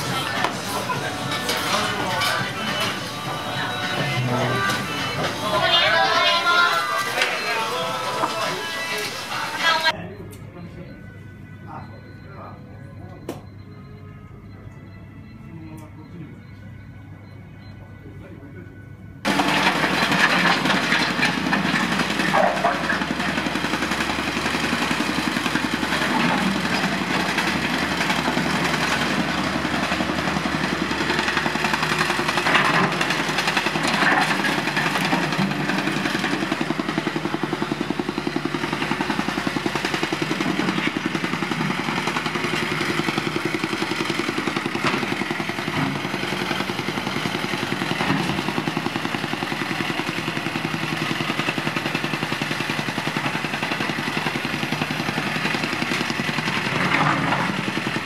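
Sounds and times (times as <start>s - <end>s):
soil compactor pounding: 0.0s - 9.9s, 19.2s - 58.0s
heavy machinery running: 0.0s - 58.0s.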